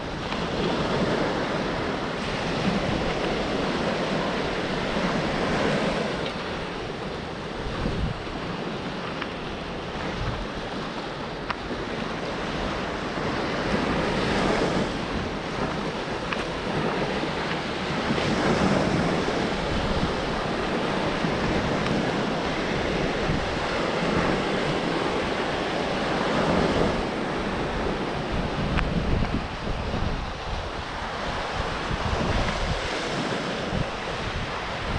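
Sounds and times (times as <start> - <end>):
surf washing onto beach: 0.0 - 34.9
wind buffeting microphone: 0.0 - 34.9.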